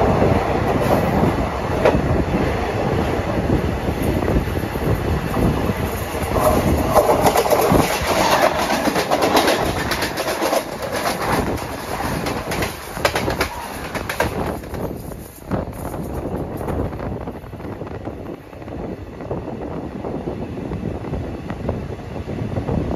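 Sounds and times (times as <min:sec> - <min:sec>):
wheels clattering over rail joints: 0:00.0 - 0:18.7
train rolling noise: 0:00.0 - 0:22.9.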